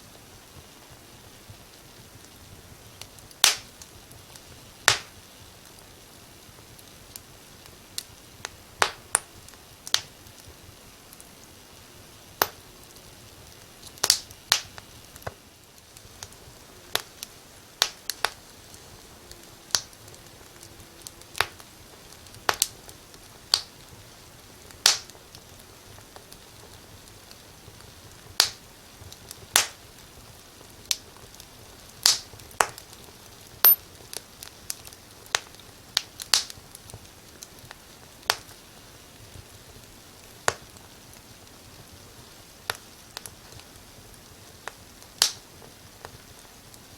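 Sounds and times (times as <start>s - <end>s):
faint steady hiss: 0.0s - 46.9s
fire crackling and popping: 0.0s - 46.9s.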